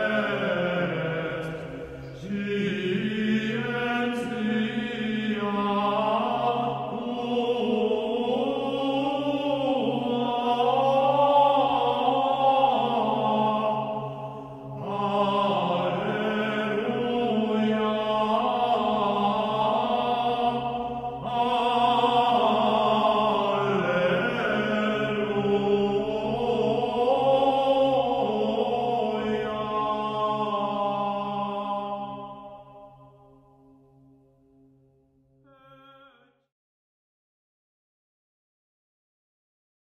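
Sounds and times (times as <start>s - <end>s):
chanting voices: 0.0s - 33.6s.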